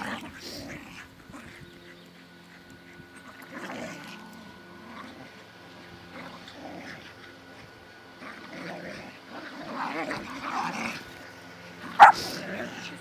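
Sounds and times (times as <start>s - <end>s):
dogs growling in play: 0.0s - 13.0s.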